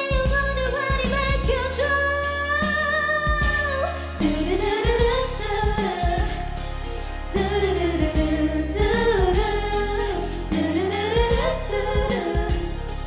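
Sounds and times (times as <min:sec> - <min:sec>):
backing track music: 0:00.0 - 0:13.0
women singing a pop ballad: 0:00.0 - 0:13.0.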